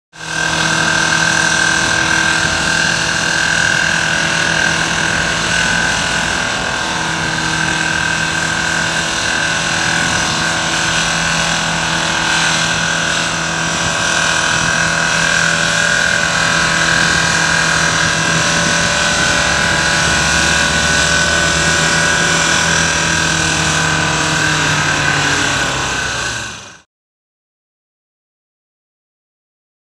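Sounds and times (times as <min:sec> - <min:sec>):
high steady engine whine: 0:00.1 - 0:26.9
vehicle engine running loudly: 0:00.1 - 0:26.9.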